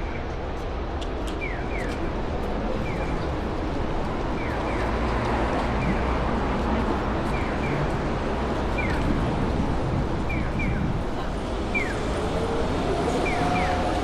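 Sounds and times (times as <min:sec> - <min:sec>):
traffic hum: 0:00.2 - 0:14.0.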